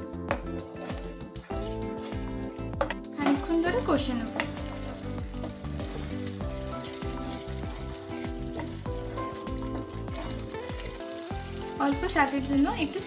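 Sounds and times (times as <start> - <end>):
curry sizzling in a pan: 0.0 - 13.0
wooden spatula stirring: 0.1 - 13.0.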